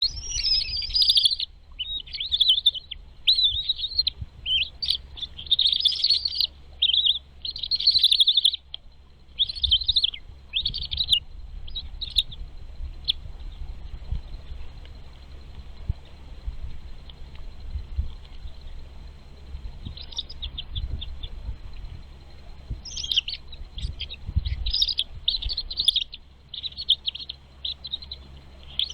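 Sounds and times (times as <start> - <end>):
nestlings chirping: 0.0 - 15.5, 16.4 - 28.9.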